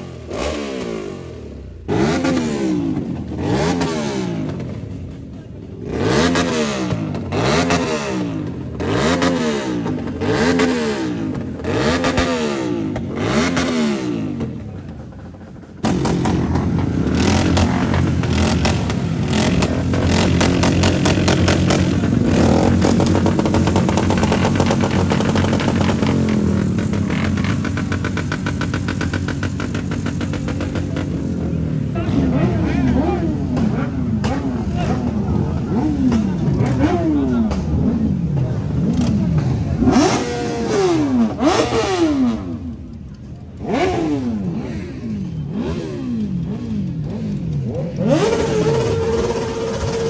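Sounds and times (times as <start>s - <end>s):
motorcycle engine revving: 0.0s - 50.0s
motorcycle engines running steadily: 0.0s - 50.0s.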